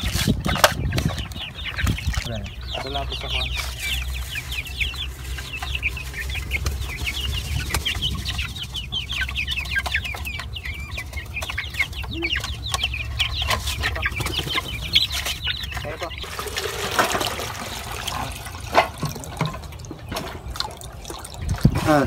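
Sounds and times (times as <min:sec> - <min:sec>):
chicks cheeping: 0:00.0 - 0:22.0.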